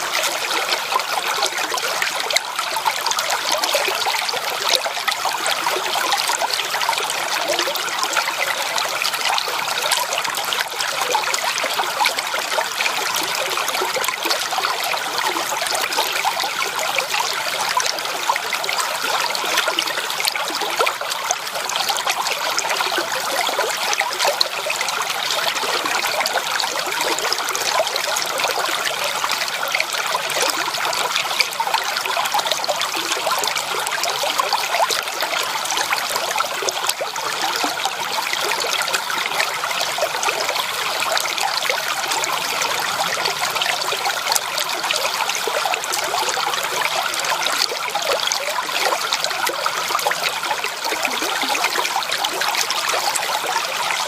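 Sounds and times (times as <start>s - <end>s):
creek water babbling over stones: 0.0s - 54.0s.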